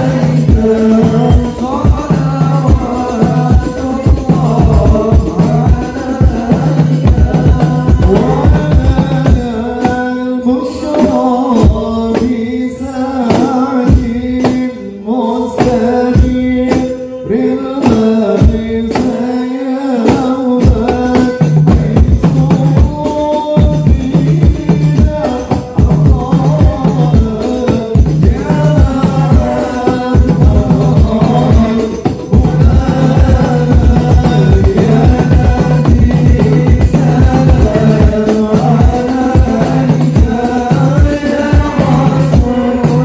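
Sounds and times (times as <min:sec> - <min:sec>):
frame drums beating: 0:00.0 - 0:14.8, 0:15.5 - 0:43.0
men singing: 0:00.0 - 0:43.0.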